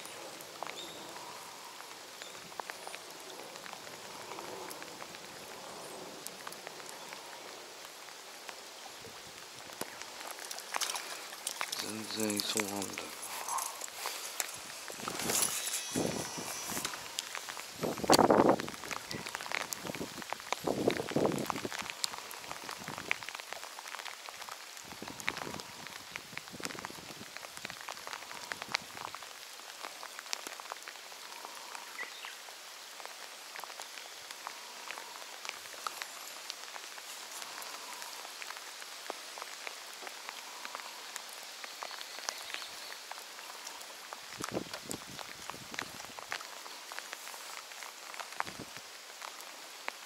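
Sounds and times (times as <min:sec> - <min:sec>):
rain falling on water: 0:00.0 - 0:50.0.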